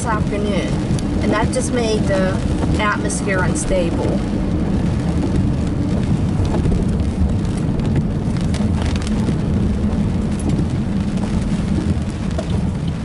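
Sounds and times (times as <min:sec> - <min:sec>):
car driving on wet road: 0:00.0 - 0:13.0
rain ticking on windshield: 0:00.0 - 0:13.0.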